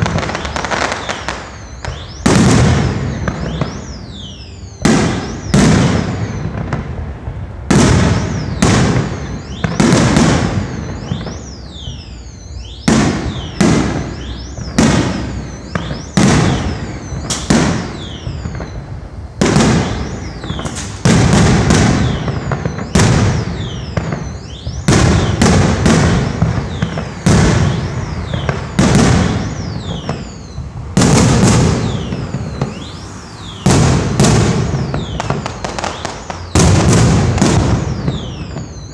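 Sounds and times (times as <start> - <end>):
fireworks bursting with loud bangs: 0.0 - 38.9.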